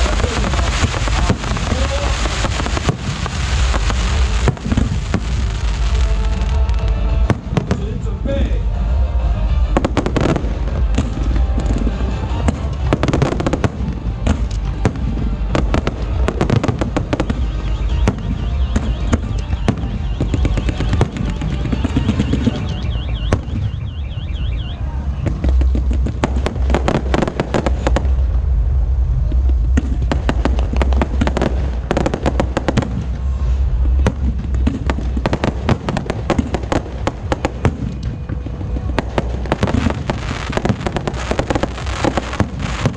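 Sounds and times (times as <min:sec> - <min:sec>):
fireworks bangs and crackles: 0:00.0 - 0:42.9
low rumble: 0:00.0 - 0:42.9.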